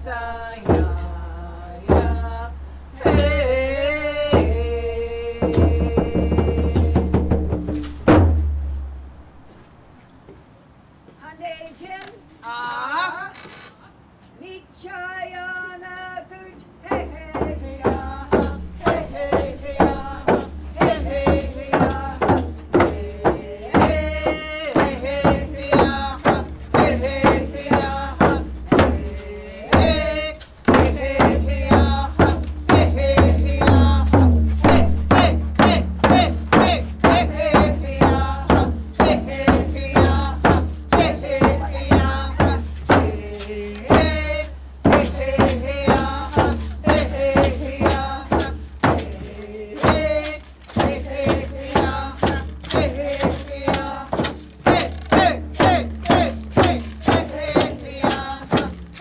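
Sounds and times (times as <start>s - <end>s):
group singing: 0.0s - 7.2s, 16.9s - 59.0s
frame drums beating: 0.0s - 9.3s, 16.9s - 59.0s.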